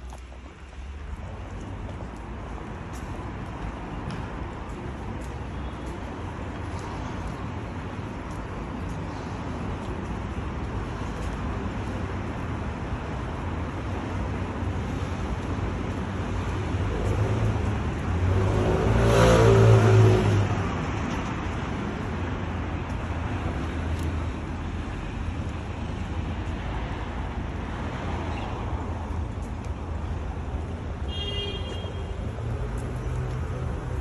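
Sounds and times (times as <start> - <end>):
city traffic rumbling: 0.0 - 34.0.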